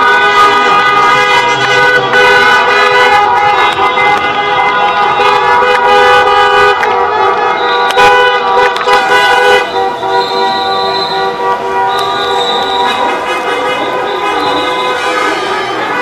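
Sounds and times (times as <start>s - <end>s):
car horns honking: 0.0s - 16.0s.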